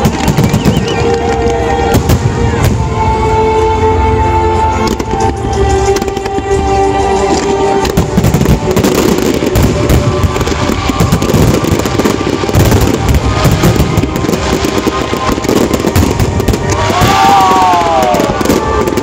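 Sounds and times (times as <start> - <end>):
fireworks bursting and crackling: 0.0 - 3.3, 4.6 - 19.0.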